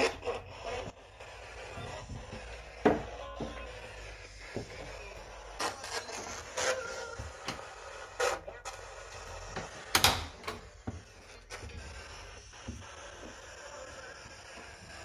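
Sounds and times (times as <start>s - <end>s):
wooden floorboards creaking and knocking: 0.0s - 15.0s.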